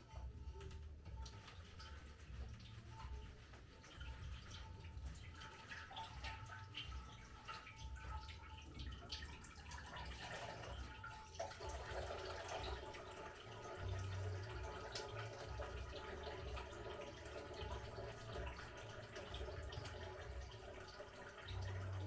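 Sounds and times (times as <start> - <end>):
water dripping and splashing: 0.0 - 22.0.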